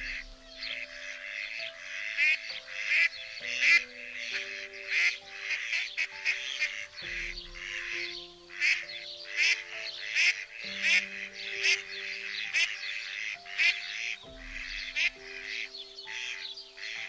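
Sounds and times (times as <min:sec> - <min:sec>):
calm background music: 0:00.0 - 0:17.0
ducks quacking: 0:00.0 - 0:17.0.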